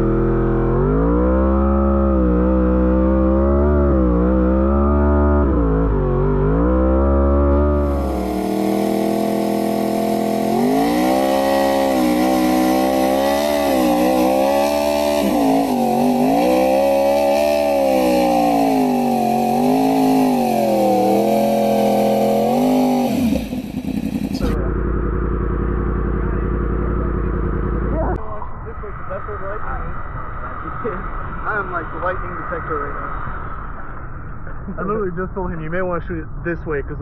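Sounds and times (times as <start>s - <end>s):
motorcycle engine revving high: 0.0s - 35.8s.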